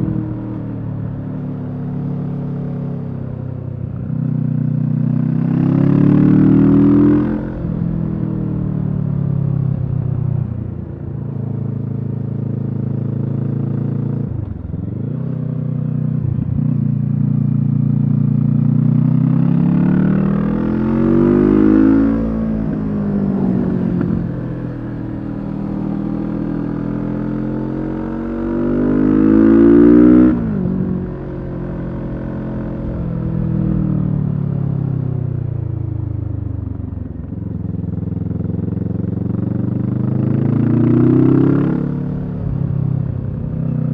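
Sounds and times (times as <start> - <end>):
motorcycle engine revving: 4.3 - 8.7, 11.7 - 43.9.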